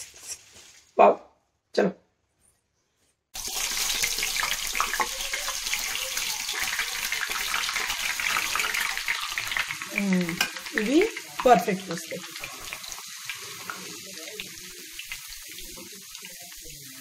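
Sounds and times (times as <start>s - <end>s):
potatoes sizzling in hot oil: 3.4s - 17.0s.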